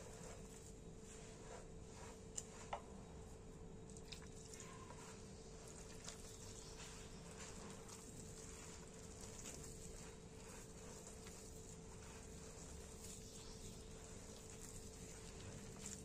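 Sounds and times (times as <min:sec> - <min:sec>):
faint steady hum: 0:00.0 - 0:16.0
hand squishing dough: 0:00.0 - 0:16.0.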